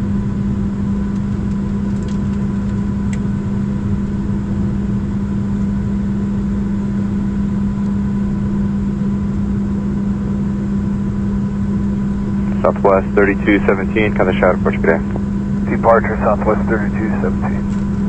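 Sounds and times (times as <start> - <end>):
jet engines droning in cabin: 0.0 - 18.0.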